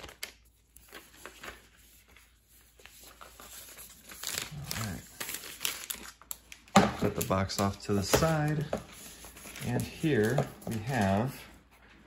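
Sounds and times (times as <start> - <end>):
cardboard and paper crinkling: 0.0 - 12.0.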